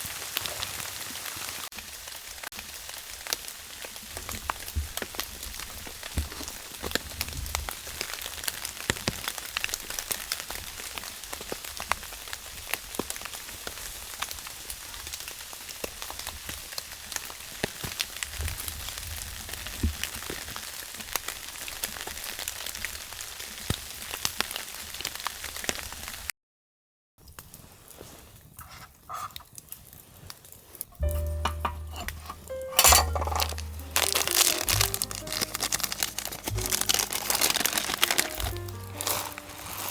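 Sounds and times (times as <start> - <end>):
rain falling: 0.0 - 26.3, 30.9 - 39.9
raindrops striking close by: 0.0 - 26.3, 32.1 - 39.9.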